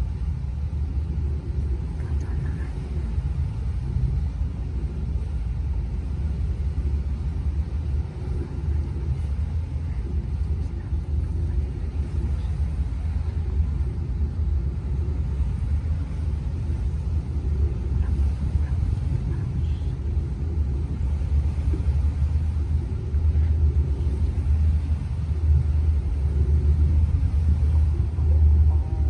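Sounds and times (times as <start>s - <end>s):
motor yacht engine rumble: 0.0s - 29.0s.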